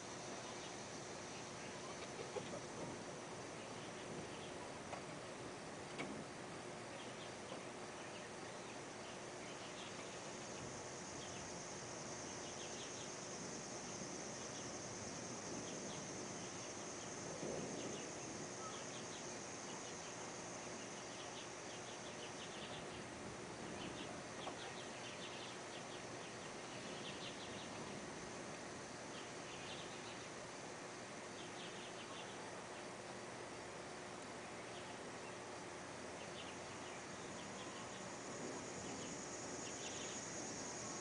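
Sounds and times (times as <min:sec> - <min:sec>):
insect chirping trills: 0:00.0 - 0:41.0
insect high-pitched drone: 0:00.0 - 0:41.0
light hiss: 0:00.0 - 0:41.0.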